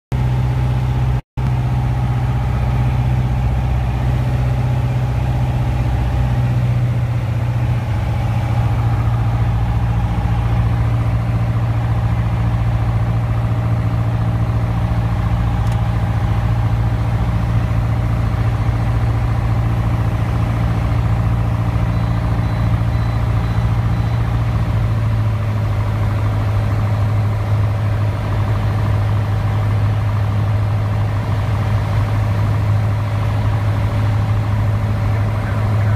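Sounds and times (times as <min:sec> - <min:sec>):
propeller plane engine droning: 0:00.1 - 0:35.9.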